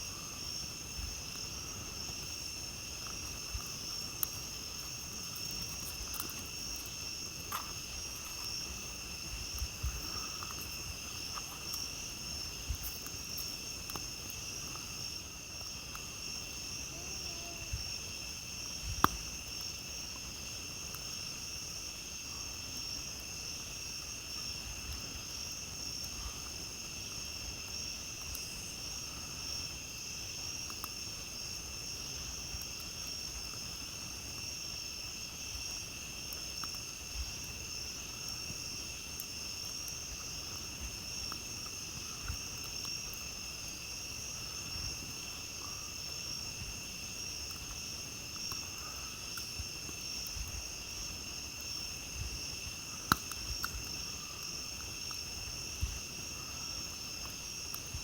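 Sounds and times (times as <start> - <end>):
crickets and insects trilling: 0.0 - 58.0
campfire crackles and pops: 0.1 - 58.0.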